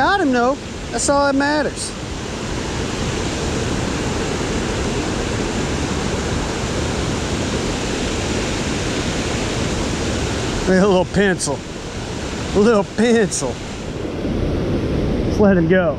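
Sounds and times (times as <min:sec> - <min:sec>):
creek water flowing: 0:00.0 - 0:15.8.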